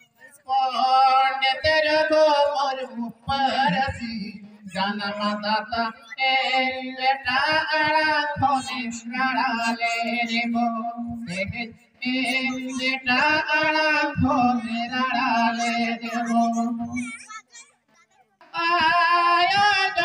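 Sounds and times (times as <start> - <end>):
man singing into microphone: 0.0 - 17.2, 18.4 - 20.0.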